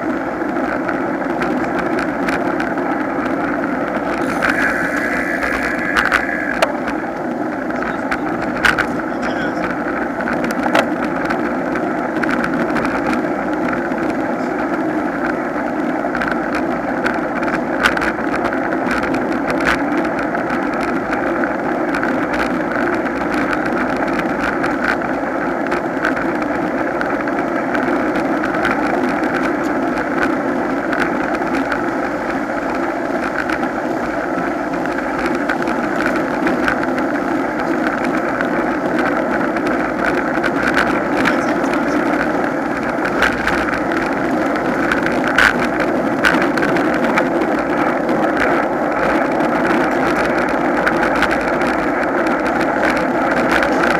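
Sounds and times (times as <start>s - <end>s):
bicycle tyre road noise: 0.0s - 53.9s
wind rush on microphone: 0.0s - 53.9s.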